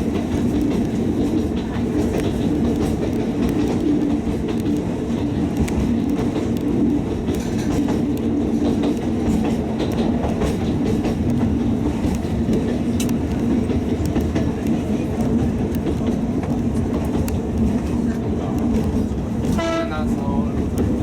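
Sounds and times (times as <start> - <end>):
train low drone: 0.0 - 21.0
train wheels clacking over rail joints: 0.0 - 21.0.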